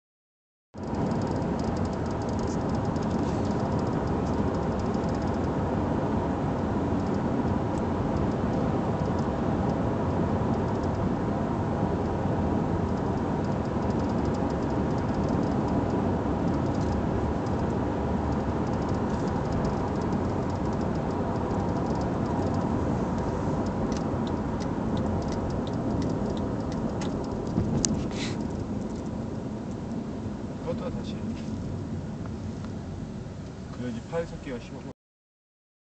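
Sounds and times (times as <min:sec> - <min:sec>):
car engine droning: 0:00.8 - 0:34.9.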